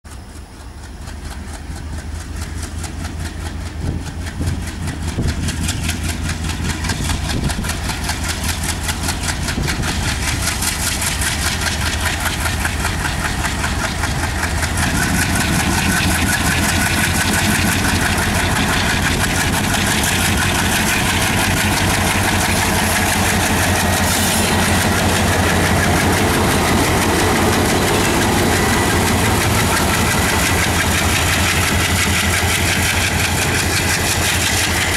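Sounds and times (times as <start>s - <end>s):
locomotive engine throttling up: 0.1s - 34.9s.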